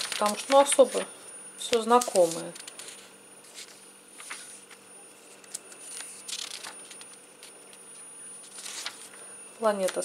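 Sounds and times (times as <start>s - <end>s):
catalogue pages rustling: 0.0s - 10.0s.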